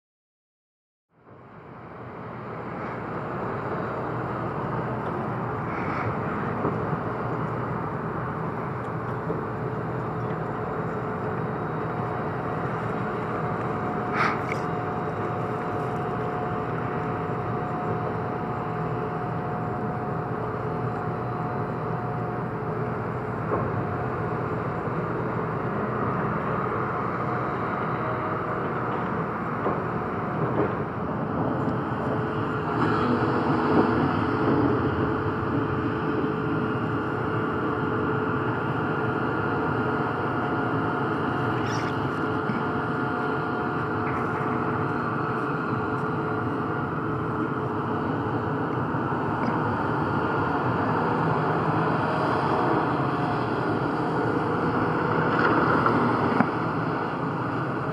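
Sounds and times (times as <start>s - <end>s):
distant diesel machinery rumble: 1.1s - 57.9s
thin steady whine: 1.1s - 57.9s.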